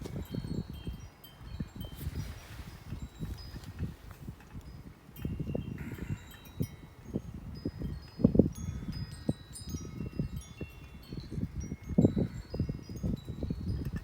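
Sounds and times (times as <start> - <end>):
wind chimes ringing: 0.0 - 14.0
wind rumbling on microphone: 0.0 - 14.0.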